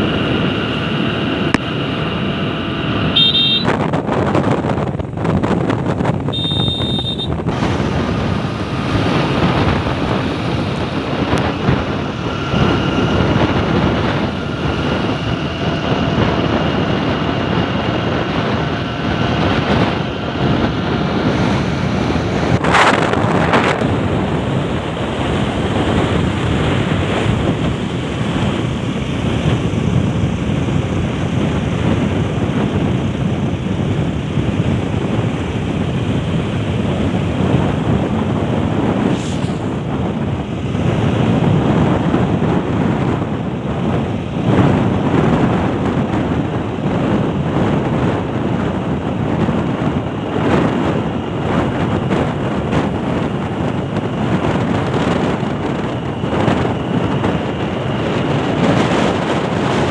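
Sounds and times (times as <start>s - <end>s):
wind across microphone: 0.0s - 59.9s.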